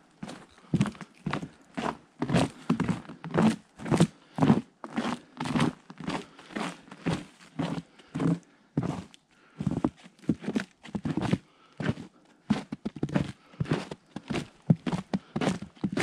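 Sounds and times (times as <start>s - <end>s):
boots crunching in snow: 0.2s - 16.0s.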